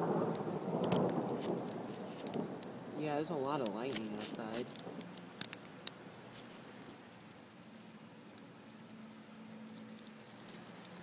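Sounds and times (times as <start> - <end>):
heavy rain pattering: 0.0 - 11.0
sharp ticks of raindrops: 0.0 - 11.0.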